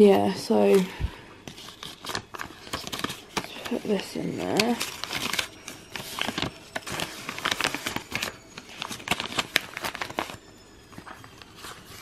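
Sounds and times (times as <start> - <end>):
rustling and crinkling: 0.4 - 12.0.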